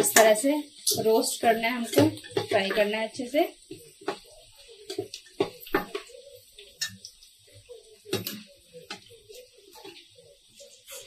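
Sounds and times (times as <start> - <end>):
spices sizzling in ghee: 0.0 - 11.0.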